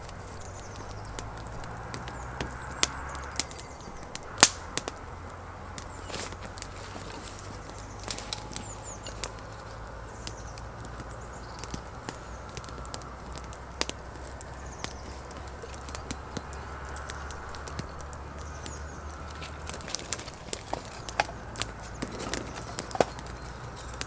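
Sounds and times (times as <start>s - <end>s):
campfire crackling: 0.0s - 24.0s
fire popping and snapping: 0.0s - 24.0s.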